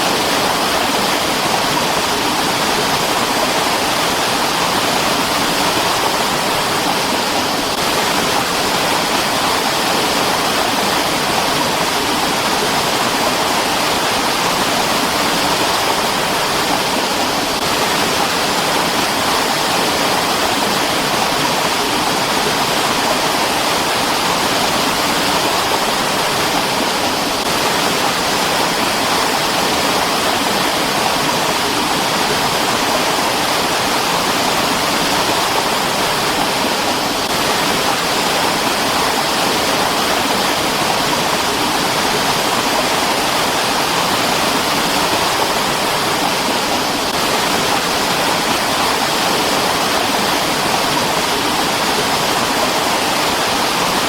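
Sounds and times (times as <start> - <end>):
mountain stream flowing: 0.0 - 54.0.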